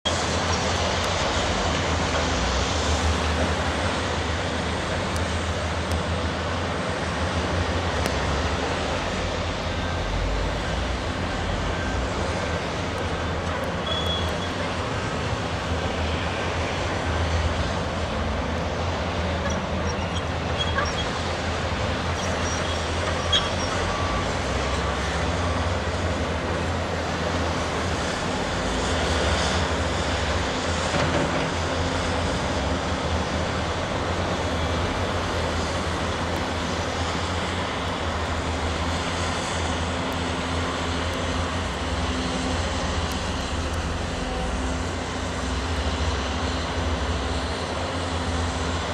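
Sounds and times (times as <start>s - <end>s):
diesel construction machinery running: 0.1s - 48.9s.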